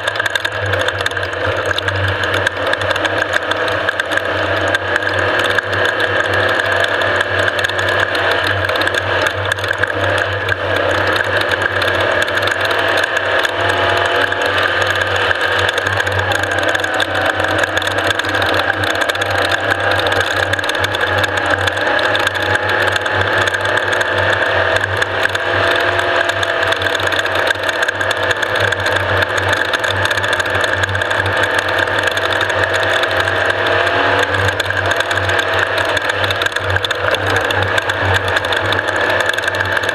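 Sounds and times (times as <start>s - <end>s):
engine mechanical drone: 0.0s - 39.9s
fast rattling: 0.0s - 39.9s
gear whine: 0.0s - 39.9s.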